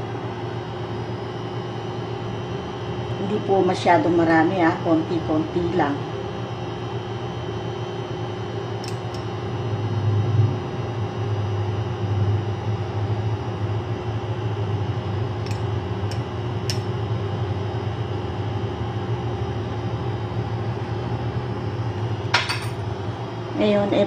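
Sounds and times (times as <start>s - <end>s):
fan motor humming: 0.0s - 24.0s.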